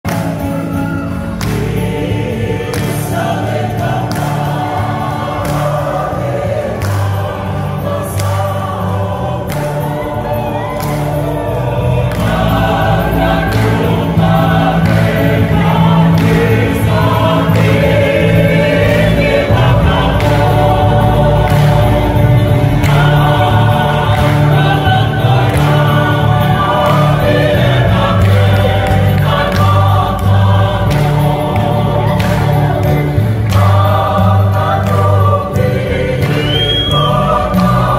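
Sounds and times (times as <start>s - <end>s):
choir singing: 0.1s - 37.9s.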